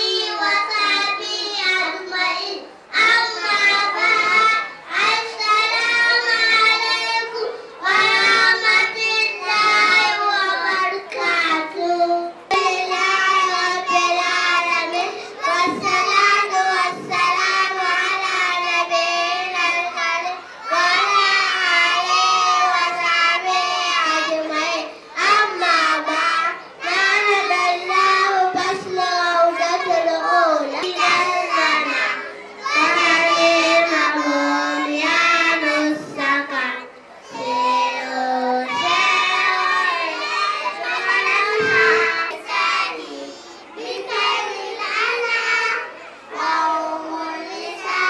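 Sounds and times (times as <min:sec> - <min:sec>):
children singing together: 0:00.0 - 0:48.0.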